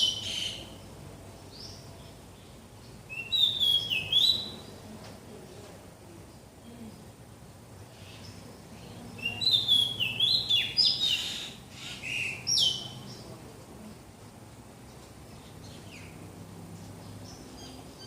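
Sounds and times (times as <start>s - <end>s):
bird chirping: 0.0s - 5.6s, 7.8s - 14.1s, 14.8s - 18.0s.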